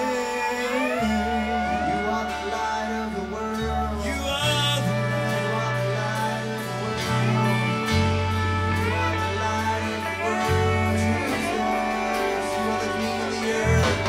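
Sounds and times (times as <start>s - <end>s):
band playing slow song: 0.0s - 14.0s.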